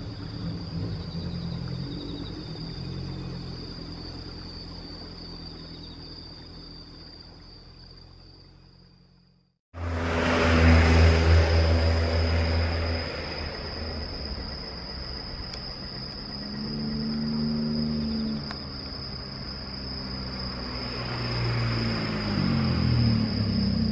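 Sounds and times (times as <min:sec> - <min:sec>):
insects trilling: 0:00.0 - 0:23.9
vehicles passing on road: 0:00.0 - 0:23.9.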